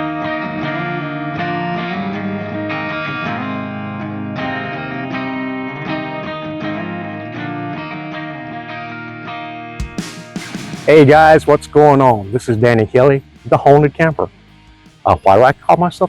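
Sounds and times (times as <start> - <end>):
strummed guitar with effects: 0.0 - 16.0.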